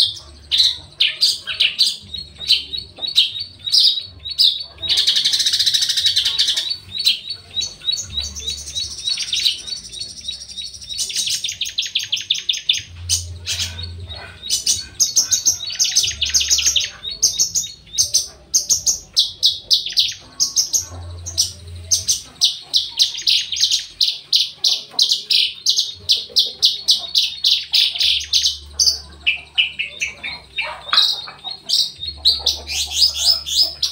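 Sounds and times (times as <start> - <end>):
bird singing buzzy chirps and trills: 0.0 - 33.9.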